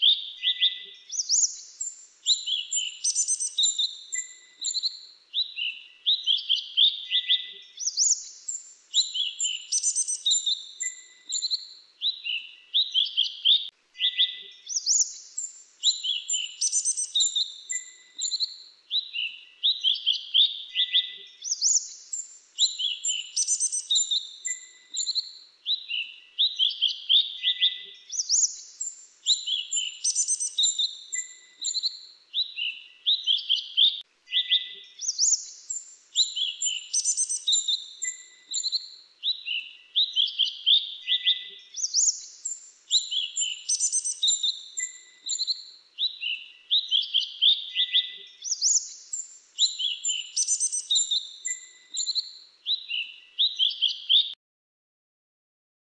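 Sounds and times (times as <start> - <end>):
songbird singing: 0.0 - 54.4.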